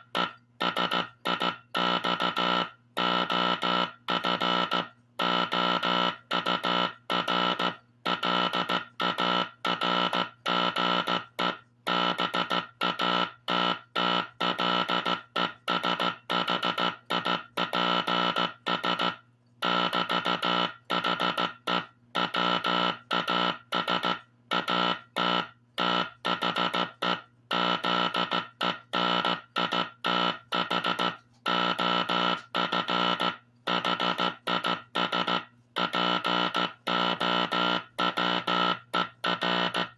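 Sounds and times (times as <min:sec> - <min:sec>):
buzzy morse code tone: 0:00.0 - 0:39.9.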